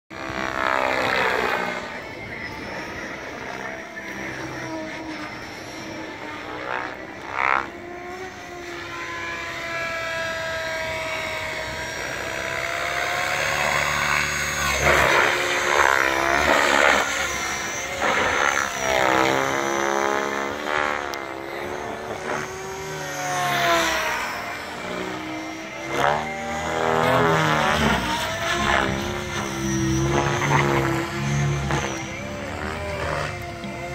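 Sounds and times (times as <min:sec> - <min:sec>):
model helicopter rotor and motor: 0:00.1 - 0:33.9.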